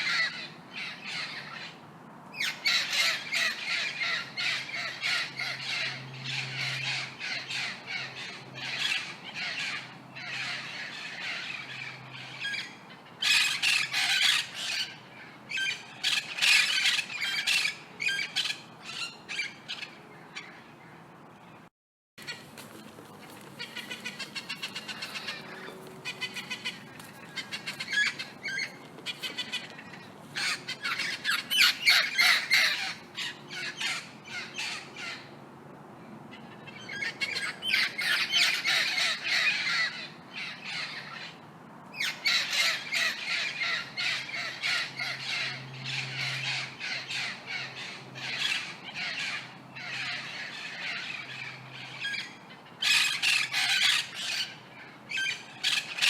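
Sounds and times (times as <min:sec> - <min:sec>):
parrots squawking and screeching: 0:00.0 - 0:20.6, 0:23.2 - 0:35.3, 0:36.3 - 0:56.0.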